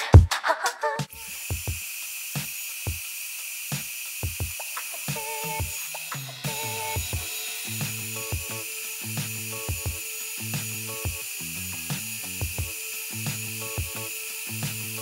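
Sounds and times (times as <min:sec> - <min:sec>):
background music with drum beat: 0:00.0 - 0:03.0, 0:03.7 - 0:15.0
dental drill whining: 0:01.1 - 0:15.0.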